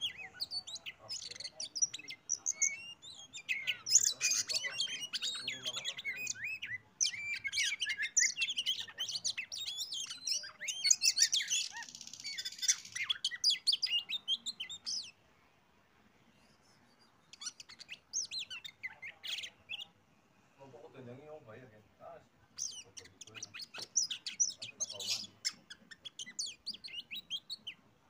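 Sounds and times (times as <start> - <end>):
magpie-robin whistles and chirps: 0.0 - 15.2, 16.4 - 20.0, 22.6 - 27.8.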